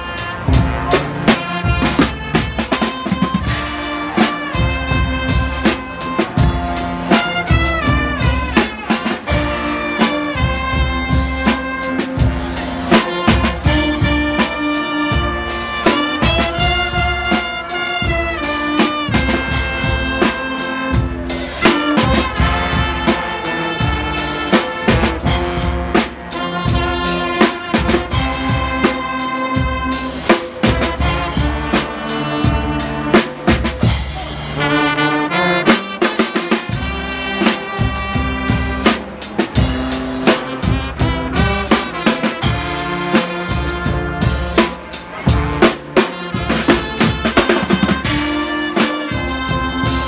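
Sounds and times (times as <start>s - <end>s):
brass band playing: 0.0s - 50.0s
drum kit beat: 0.0s - 50.0s.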